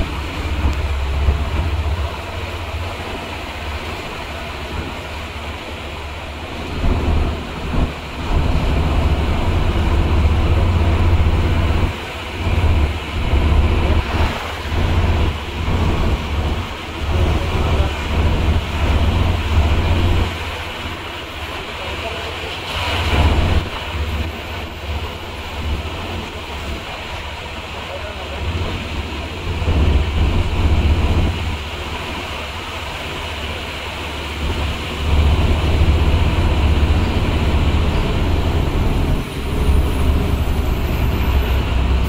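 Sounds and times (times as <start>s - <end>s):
vehicle rumbling on road: 0.0s - 42.0s.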